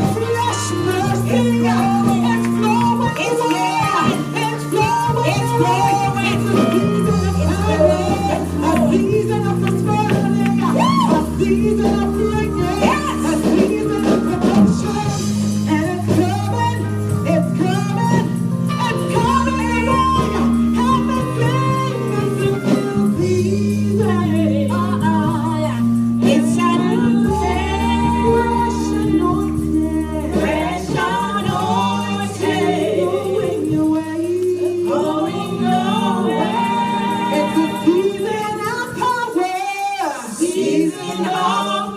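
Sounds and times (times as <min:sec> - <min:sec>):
choir singing gospel song: 0:00.0 - 0:41.9
keyboard and bass accompaniment: 0:00.0 - 0:41.9.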